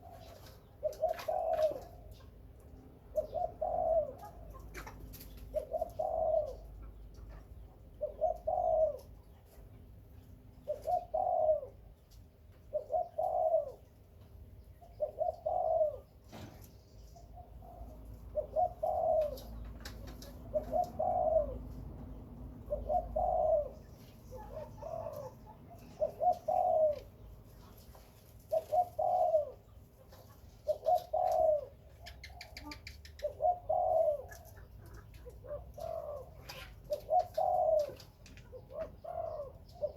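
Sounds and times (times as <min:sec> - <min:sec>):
dove cooing: 0:00.0 - 0:09.7, 0:10.5 - 0:39.9.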